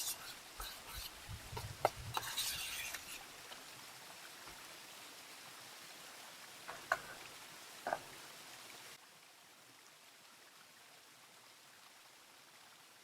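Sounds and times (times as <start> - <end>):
running stream hiss: 0.0 - 13.0.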